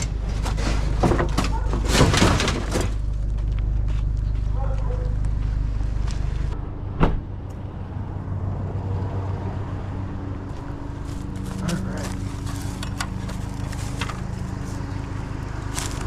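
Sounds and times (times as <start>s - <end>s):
truck engine hum: 0.0s - 16.0s.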